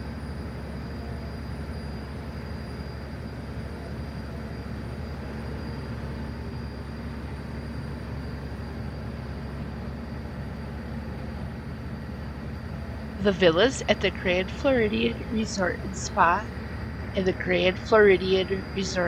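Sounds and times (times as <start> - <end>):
boat engine droning: 0.0 - 19.0
faint high whine: 0.0 - 19.0.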